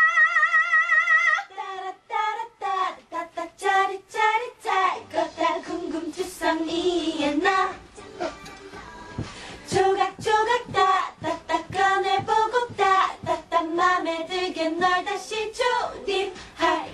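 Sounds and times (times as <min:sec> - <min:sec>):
women singing into microphones: 0:00.0 - 0:16.9.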